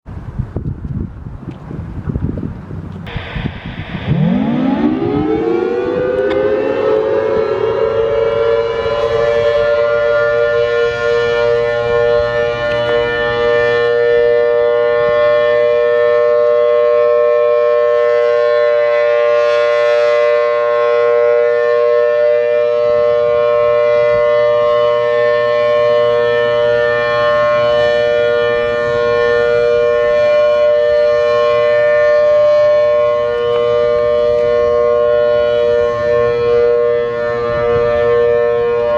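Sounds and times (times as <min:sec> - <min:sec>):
rotating warning siren: 0:03.1 - 0:38.9.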